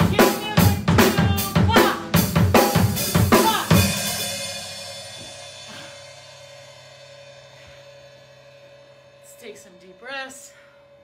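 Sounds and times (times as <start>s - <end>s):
drum and cymbal hits: 0.0s - 11.0s.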